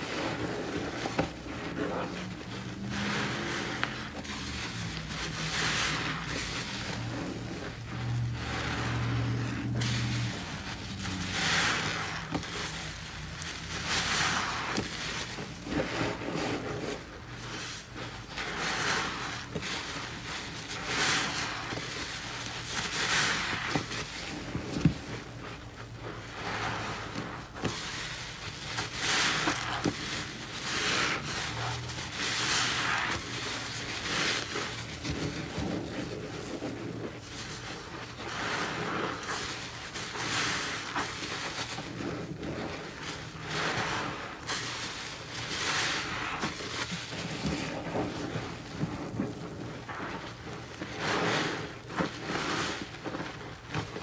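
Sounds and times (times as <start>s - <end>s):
sponge squelching in suds: 0.0s - 54.0s.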